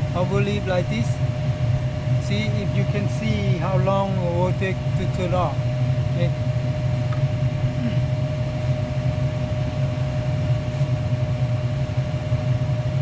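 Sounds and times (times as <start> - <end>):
furnace blower humming and whining: 0.0 - 13.0.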